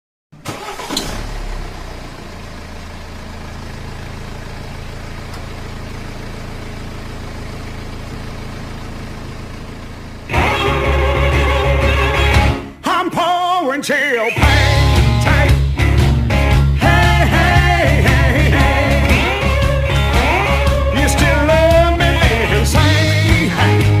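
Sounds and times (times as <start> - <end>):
vehicle engine idling: 0.4 - 12.8, 14.4 - 24.0.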